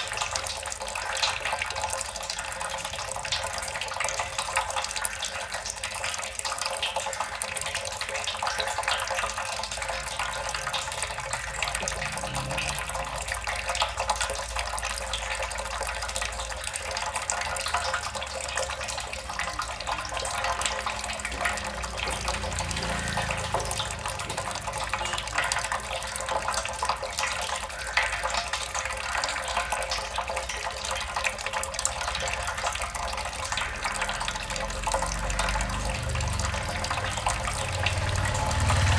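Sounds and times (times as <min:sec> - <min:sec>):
water drops splashing: 0:00.0 - 0:38.9.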